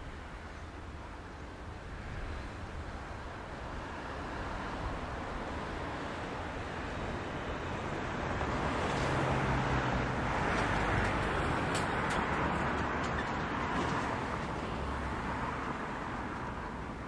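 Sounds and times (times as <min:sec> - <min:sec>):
freight train rumble: 0:00.0 - 0:17.0.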